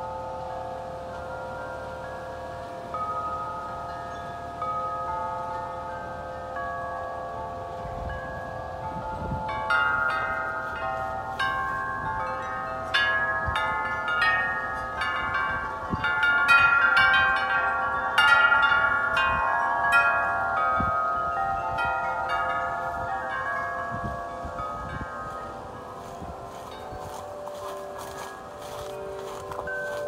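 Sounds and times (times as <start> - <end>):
low wind rumble: 0.0 - 30.0
wind chimes ringing: 0.0 - 30.0.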